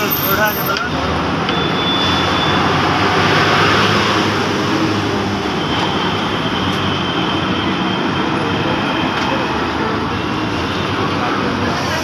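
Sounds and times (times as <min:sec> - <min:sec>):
busy street traffic rumble: 0:00.0 - 0:12.0.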